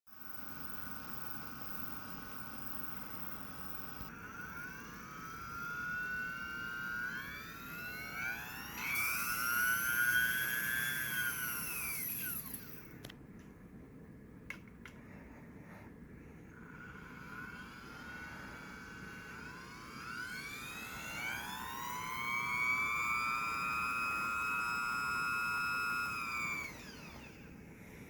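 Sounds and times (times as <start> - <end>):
small electric motor whining: 0.2 - 13.1, 16.5 - 28.0.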